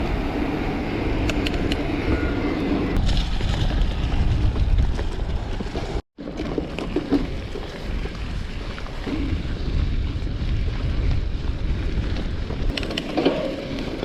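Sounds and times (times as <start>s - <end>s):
wind buffeting microphone: 0.0s - 14.0s
bike tyres rolling on gravel: 2.6s - 14.0s.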